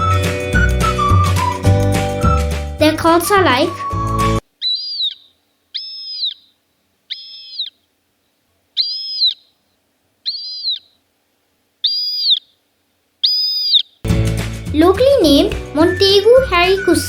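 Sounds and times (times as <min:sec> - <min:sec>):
harrier calling: 0:00.0 - 0:07.9, 0:08.7 - 0:11.0, 0:11.8 - 0:12.6, 0:13.2 - 0:14.0, 0:14.8 - 0:17.0.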